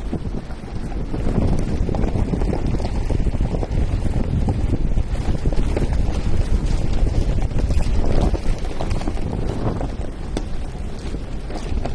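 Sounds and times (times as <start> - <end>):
vehicle rumbling on gravel road: 0.0 - 11.9
wind buffeting microphone: 0.0 - 11.9.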